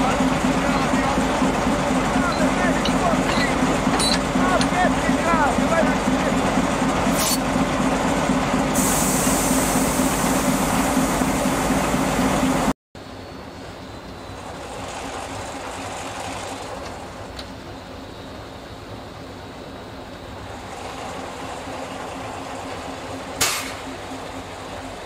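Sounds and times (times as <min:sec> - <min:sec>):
diesel locomotive idling: 0:00.0 - 0:25.0.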